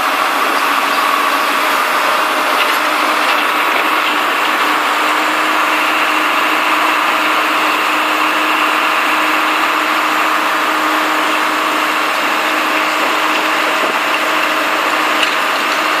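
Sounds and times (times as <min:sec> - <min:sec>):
drill rig engine humming: 0:00.0 - 0:16.0.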